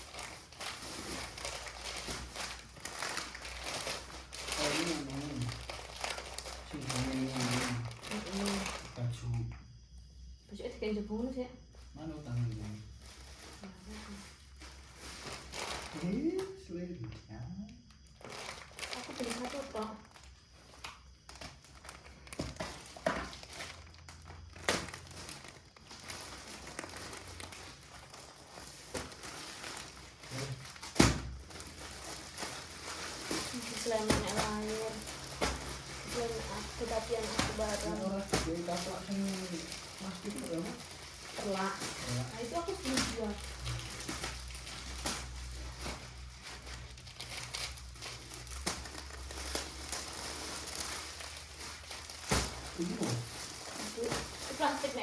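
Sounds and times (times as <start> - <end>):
plastic packaging crinkling: 0.0 - 9.3, 12.2 - 16.6, 18.0 - 55.0.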